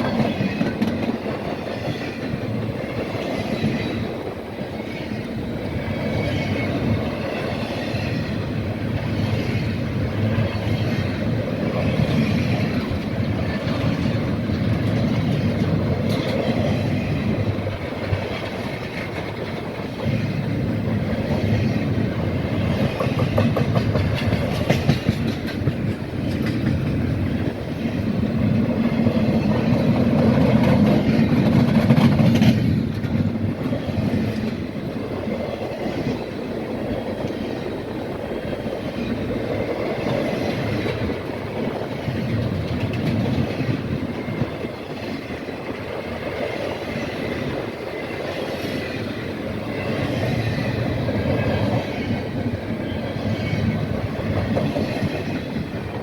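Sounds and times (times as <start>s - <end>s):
freight train cars clattering: 0.0s - 56.0s.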